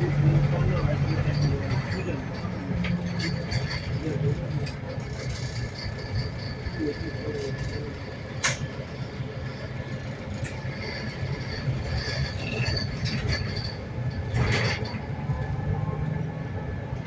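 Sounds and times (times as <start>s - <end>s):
bus interior low rumble: 0.0s - 17.0s.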